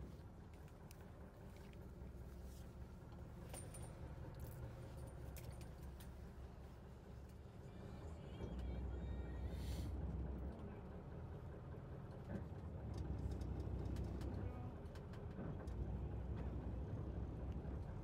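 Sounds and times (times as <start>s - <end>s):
boat engine low rumble: 0.0s - 18.0s.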